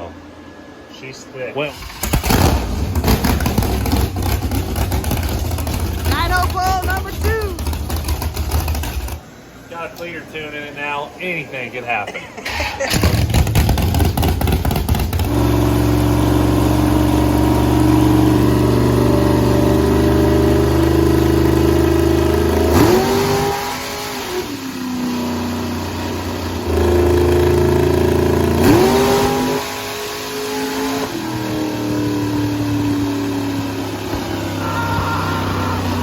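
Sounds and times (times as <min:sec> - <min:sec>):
car engine revving: 0:01.9 - 0:09.2, 0:12.9 - 0:36.0.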